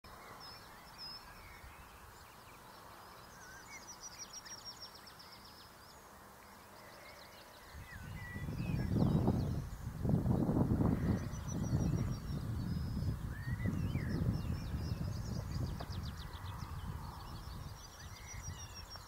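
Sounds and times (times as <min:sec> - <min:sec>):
songbirds whistling: 0:00.1 - 0:10.4, 0:11.0 - 0:19.0.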